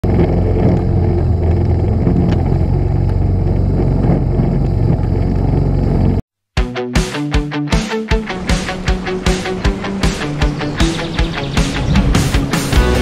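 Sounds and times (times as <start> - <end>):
lawn mower engine running: 0.0 - 6.2, 8.2 - 13.0.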